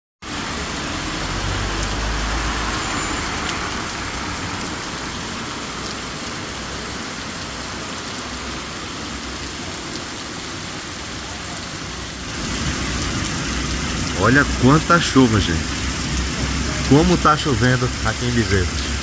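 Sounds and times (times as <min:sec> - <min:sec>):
heavy rain: 0:00.2 - 0:19.0.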